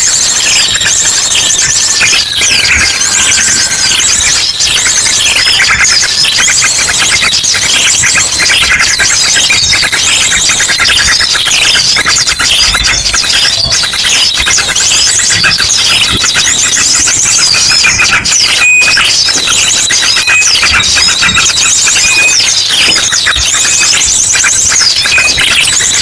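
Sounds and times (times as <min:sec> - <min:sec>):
rapid-fire drongo calls: 0:00.0 - 0:26.0
small birds chirping and twittering: 0:00.0 - 0:26.0.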